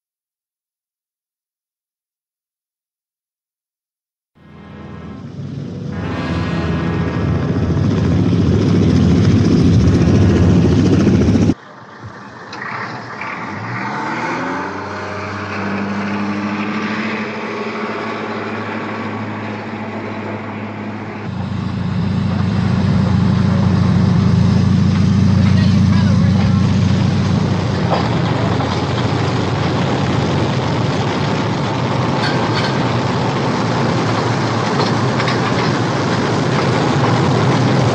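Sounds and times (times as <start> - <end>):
jet engine whine: 4.4 - 37.9
helicopter rotors and engine: 4.5 - 12.6, 14.6 - 37.9.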